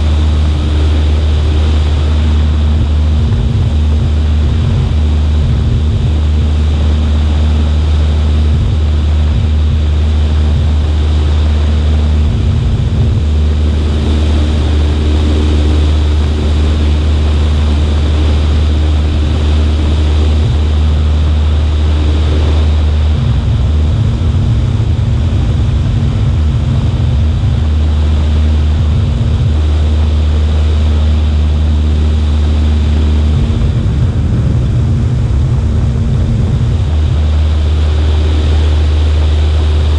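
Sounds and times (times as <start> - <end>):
airplane engine and propeller drone: 0.0 - 39.9
wind buffeting microphone: 0.0 - 39.9.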